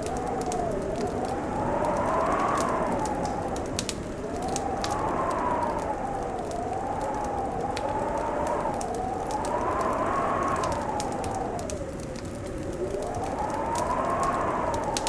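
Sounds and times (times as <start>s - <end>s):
fireplace crackling and popping: 0.0s - 15.0s
wind whistling: 0.0s - 15.0s.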